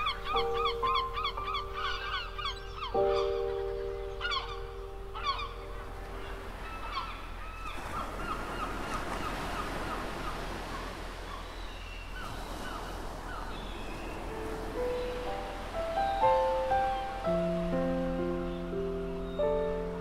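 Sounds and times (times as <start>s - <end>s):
flock of birds calling: 0.0s - 17.2s.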